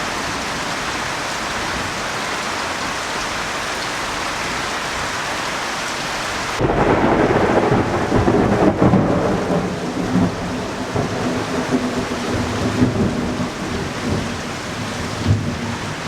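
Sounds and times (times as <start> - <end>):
heavy rain hissing: 0.0 - 16.0
wind-driven rain gusts: 0.0 - 16.0.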